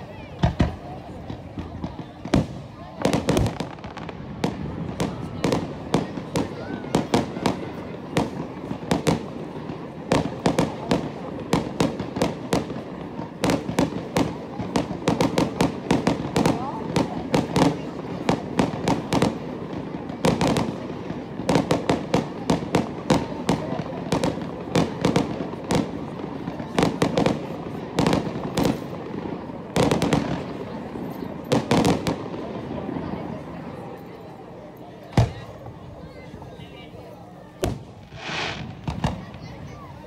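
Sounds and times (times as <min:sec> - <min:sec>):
fireworks bangs: 0:00.0 - 0:34.0, 0:35.0 - 0:36.9, 0:37.5 - 0:40.0.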